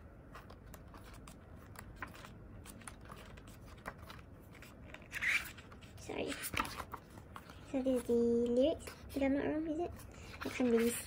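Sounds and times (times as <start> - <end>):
paper pages rustling: 0.2 - 8.2, 8.8 - 11.0.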